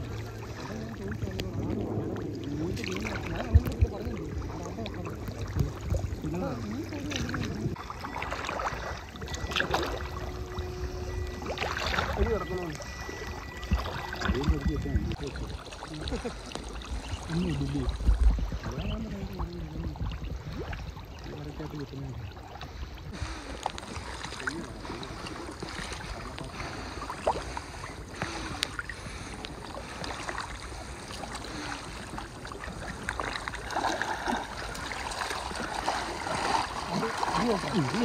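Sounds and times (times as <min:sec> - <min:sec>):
faint voices: 0:00.0 - 0:20.1, 0:23.1 - 0:33.6
water sloshing and splashing: 0:00.0 - 0:38.0.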